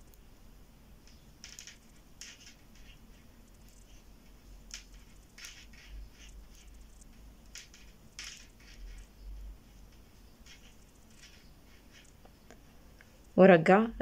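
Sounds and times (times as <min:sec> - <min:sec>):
metal knitting needles clicking: 0:01.0 - 0:12.3.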